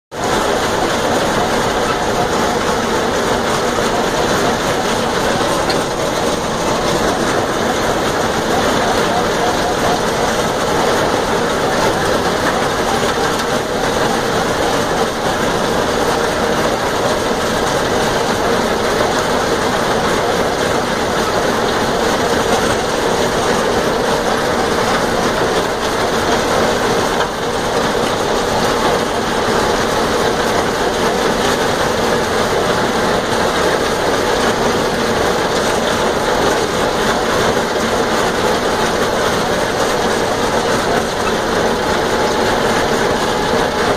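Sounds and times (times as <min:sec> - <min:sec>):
hay mower running: 0:00.1 - 0:43.9
tractor engine: 0:00.1 - 0:43.9.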